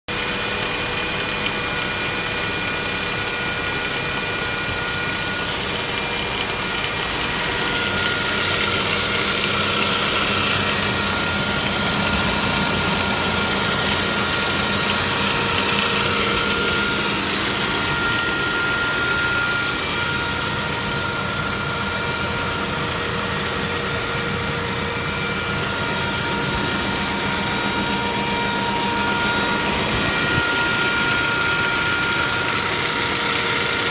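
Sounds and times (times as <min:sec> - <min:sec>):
car engine running: 0:00.1 - 0:33.9
steady whining tones: 0:00.6 - 0:33.9.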